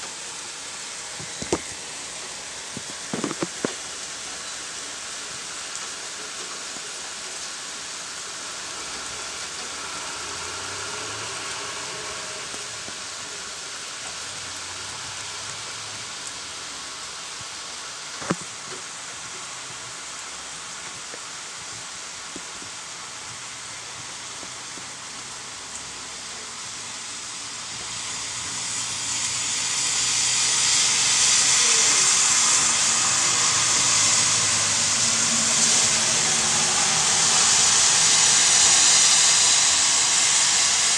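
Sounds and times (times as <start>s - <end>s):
rain hissing: 0.0s - 40.9s
traffic on a wet road: 0.0s - 40.9s.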